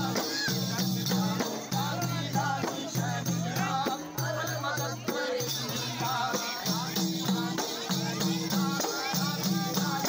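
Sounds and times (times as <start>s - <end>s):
frame drums beating: 0.0s - 10.0s
voices singing: 0.0s - 10.0s.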